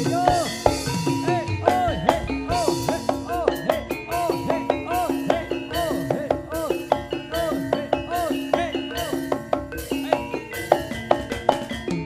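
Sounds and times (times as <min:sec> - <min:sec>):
gamelan ensemble playing: 0:00.0 - 0:12.0.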